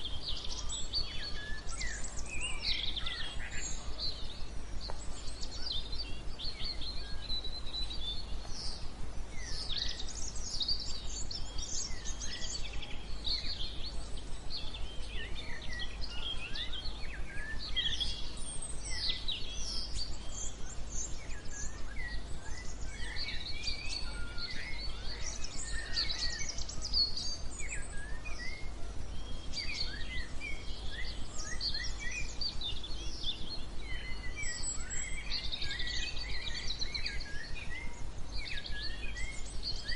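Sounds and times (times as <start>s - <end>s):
songbirds chirping: 0.0s - 39.9s
steady white noise: 0.0s - 39.9s.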